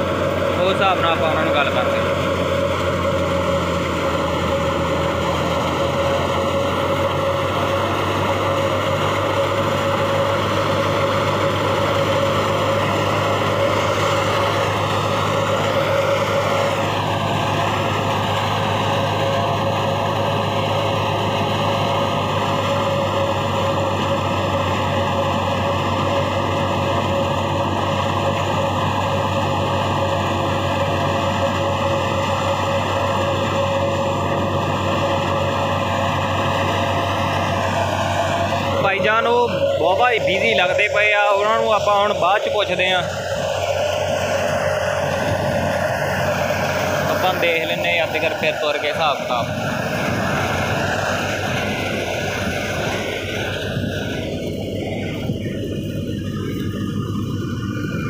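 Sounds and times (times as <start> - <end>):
wheat thresher running: 0.0 - 58.0.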